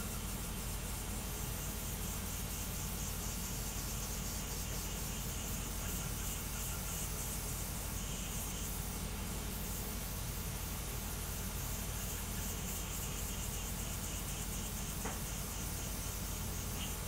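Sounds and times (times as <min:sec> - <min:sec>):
printer fans hissing: 0:00.0 - 0:17.0.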